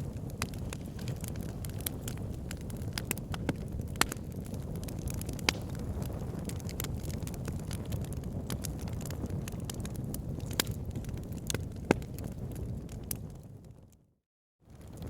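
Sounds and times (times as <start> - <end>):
wood crackling and popping: 0.0 - 14.0, 14.7 - 15.0
low rumble of flames: 0.0 - 15.0.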